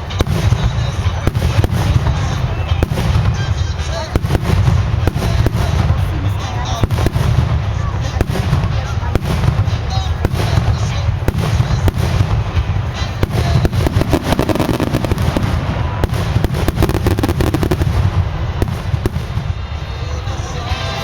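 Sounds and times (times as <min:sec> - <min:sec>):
firework bangs and crackles: 0:00.0 - 0:21.0.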